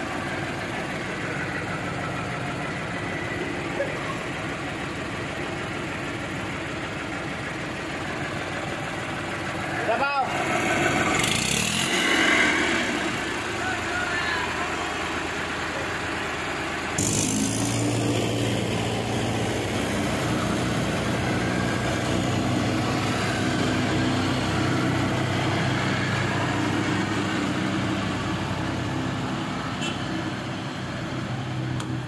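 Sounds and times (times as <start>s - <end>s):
diesel tractor engines droning: 0.0s - 32.0s.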